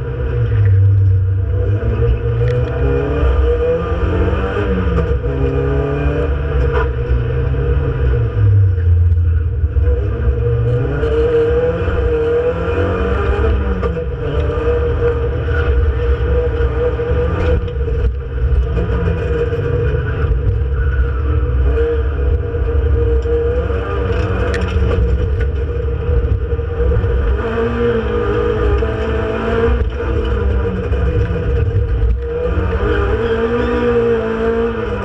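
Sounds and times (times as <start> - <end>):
car engine revving through gears: 0.0 - 35.0.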